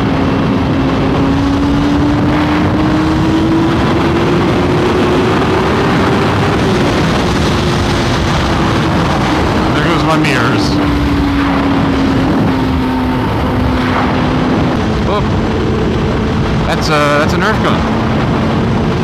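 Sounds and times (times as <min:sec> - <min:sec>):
motorcycle engine accelerating: 0:00.0 - 0:19.0
wind noise on microphone: 0:00.0 - 0:19.0.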